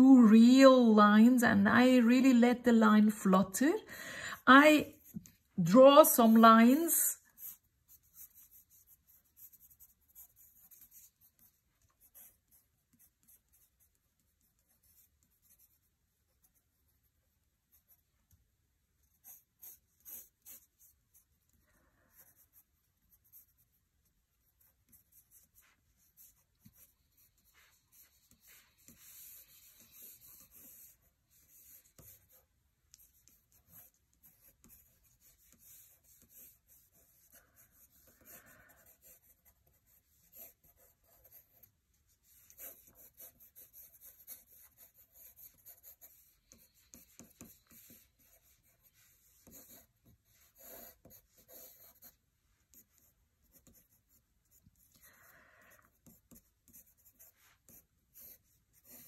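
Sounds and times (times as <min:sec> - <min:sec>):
pencil scratching on paper: 0:04.4 - 0:18.4, 0:19.0 - 0:55.0, 0:55.9 - 0:59.0.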